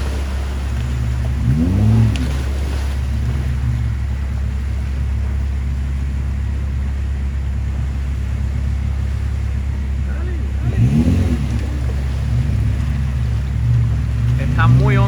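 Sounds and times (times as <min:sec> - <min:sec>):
engine and road noise drone: 0:00.0 - 0:15.0.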